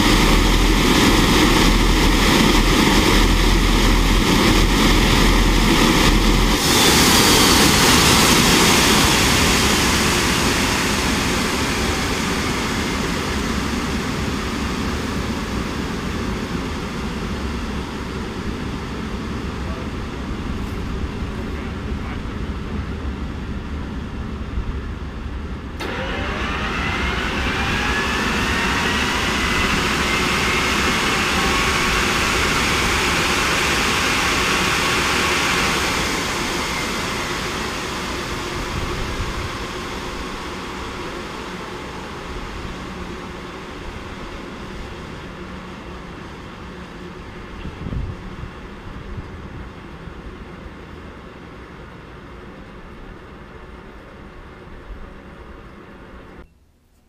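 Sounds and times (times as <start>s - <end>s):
exhaust rush: 0.0s - 50.4s
turbojet engine whine and rumble: 0.0s - 57.0s.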